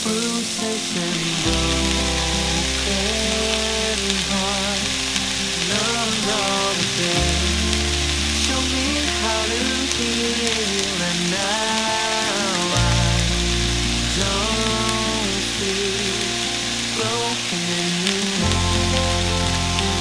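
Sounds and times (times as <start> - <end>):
background music: 0.0 - 20.0
onions sizzling in a pan: 0.0 - 20.0.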